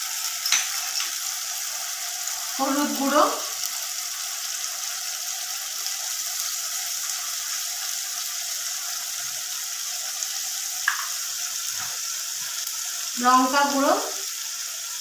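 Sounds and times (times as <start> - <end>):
paste sizzling in hot oil: 0.0 - 15.0.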